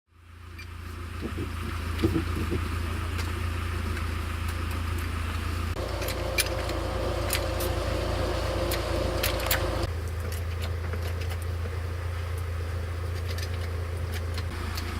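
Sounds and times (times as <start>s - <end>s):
vehicle engine running: 0.1s - 14.9s.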